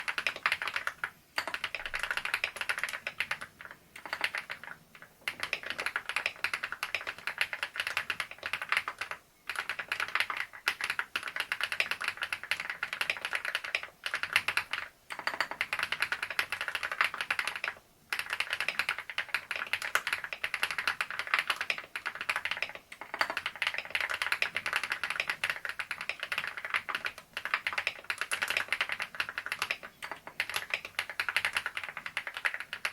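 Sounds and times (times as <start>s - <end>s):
typing on mechanical keyboard: 0.0s - 32.9s.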